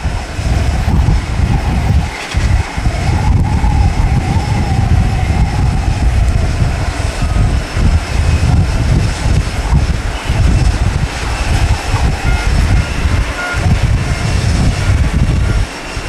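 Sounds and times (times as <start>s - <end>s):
jet engines droning: 0.0s - 16.0s
wind buffeting microphone: 0.0s - 16.0s.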